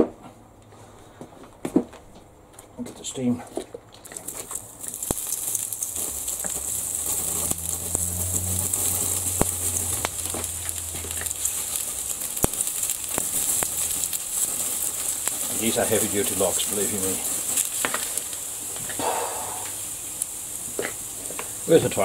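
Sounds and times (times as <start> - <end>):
sharp crackles: 3.9 - 22.0
water sizzling into steam: 4.1 - 22.0.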